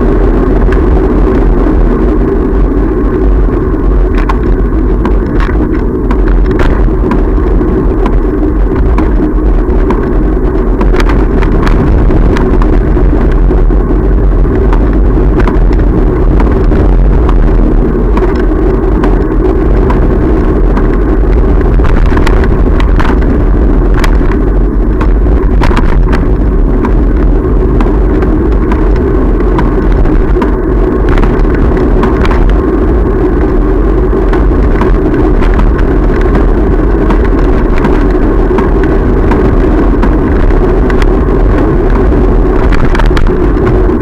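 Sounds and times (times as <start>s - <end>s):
bike rattles and clicks: 0.0s - 44.0s
wind buffeting microphone: 0.0s - 44.0s.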